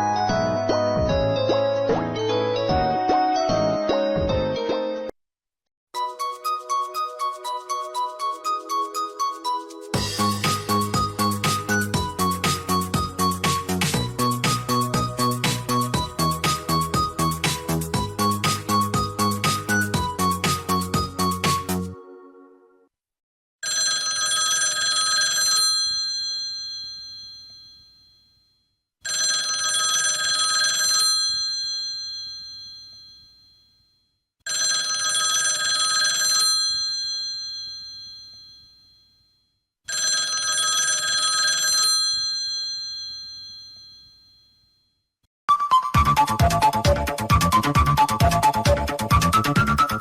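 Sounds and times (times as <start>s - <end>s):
bell-style phone ringtone: 6.0s - 22.6s, 23.6s - 50.0s.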